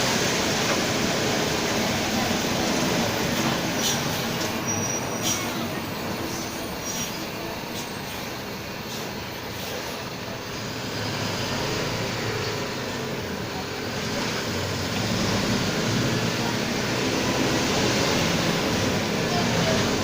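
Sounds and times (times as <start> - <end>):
bus diesel engine under load: 0.0 - 20.0.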